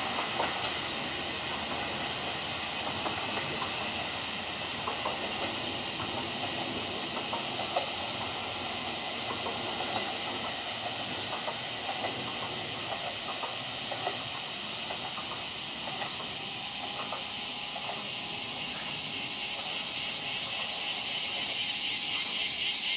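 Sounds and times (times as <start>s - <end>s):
distant railcar hiss and hum: 0.0s - 22.9s.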